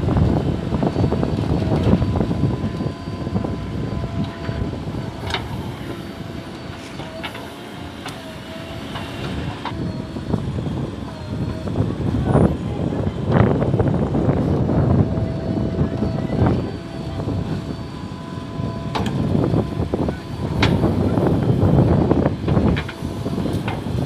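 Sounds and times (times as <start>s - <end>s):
diesel engine running under load: 0.0s - 24.0s
hydraulic whine: 0.0s - 24.0s.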